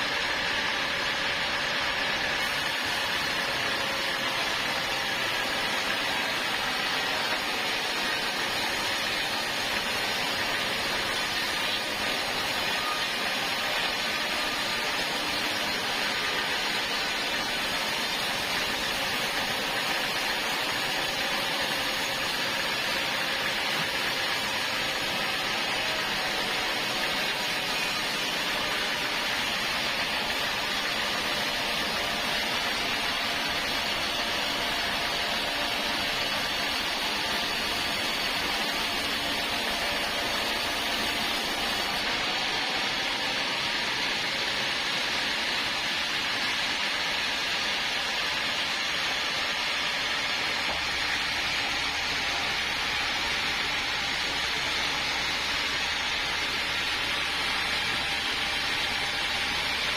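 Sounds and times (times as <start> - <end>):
sawmill saw running: 0.0 - 59.9.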